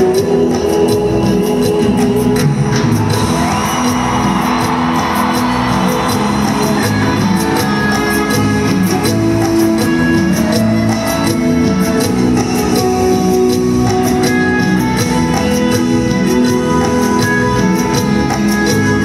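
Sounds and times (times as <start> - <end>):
electric guitar: 0.0 - 19.0
keyboards: 0.0 - 19.0
live band over loudspeakers: 0.0 - 19.0
steady drum beat: 0.0 - 19.0.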